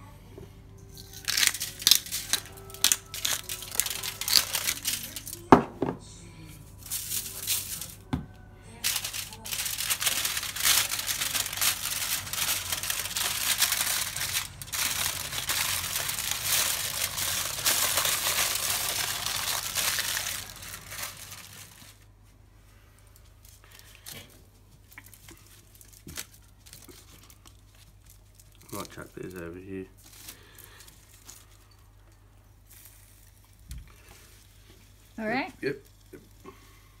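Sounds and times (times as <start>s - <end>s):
foil crinkling: 0.9s - 5.6s, 6.7s - 8.1s, 8.7s - 31.8s, 32.6s - 35.2s.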